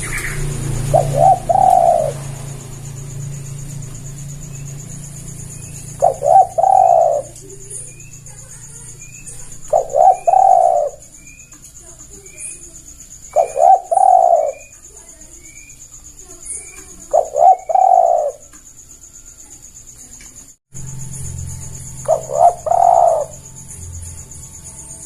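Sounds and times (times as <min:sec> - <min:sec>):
dove cooing: 0:00.0 - 0:18.6, 0:22.0 - 0:23.9
bird chirping: 0:00.0 - 0:25.0
insect buzz: 0:00.0 - 0:25.0.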